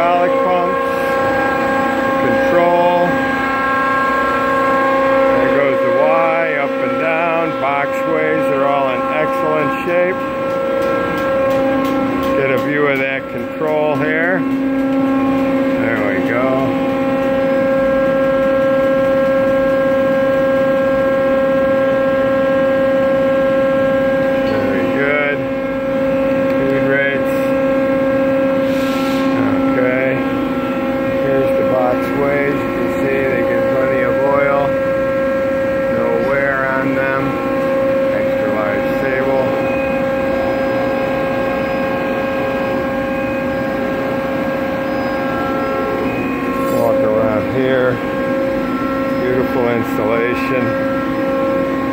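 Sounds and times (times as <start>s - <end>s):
machine hum with steady whine: 0.0s - 51.9s.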